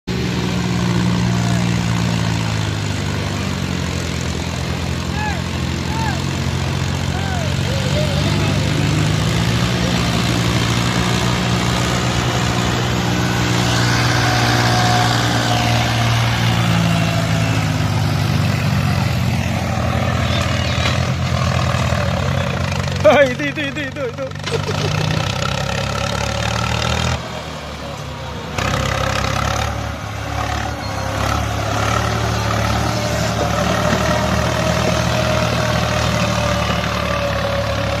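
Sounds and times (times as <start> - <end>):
tractor diesel engine running: 0.1 - 38.0.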